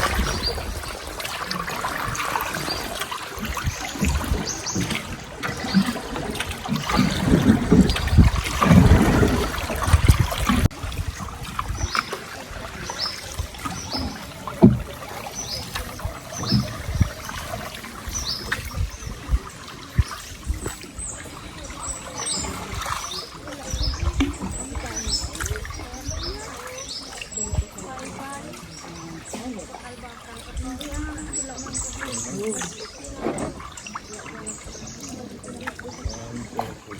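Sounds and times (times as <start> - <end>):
tropical birds chirping: 0.0 - 36.9
water trickling: 0.0 - 36.9.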